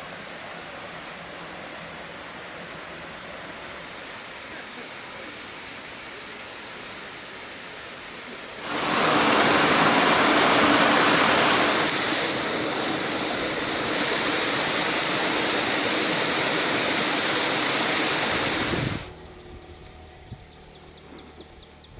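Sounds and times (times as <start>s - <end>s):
waterfall rushing: 0.0s - 19.1s.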